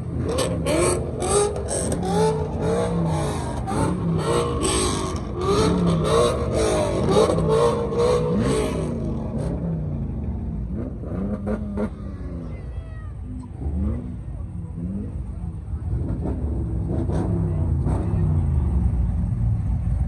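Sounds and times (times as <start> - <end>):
car engine revving: 0.0 - 12.7, 13.3 - 20.0.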